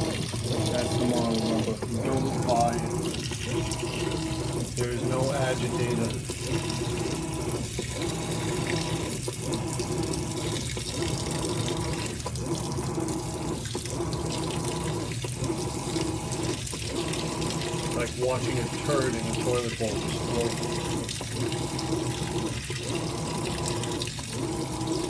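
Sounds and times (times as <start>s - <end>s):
low motor hum: 0.0s - 25.0s
water pouring into washer drum: 0.0s - 25.0s.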